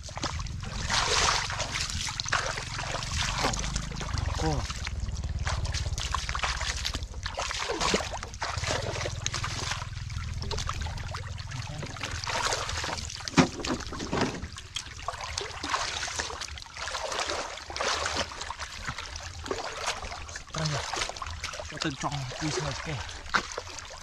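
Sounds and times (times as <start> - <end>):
hands splashing muddy water: 0.0 - 24.0
low steady hum: 0.0 - 24.0
water dribbling: 0.0 - 24.0.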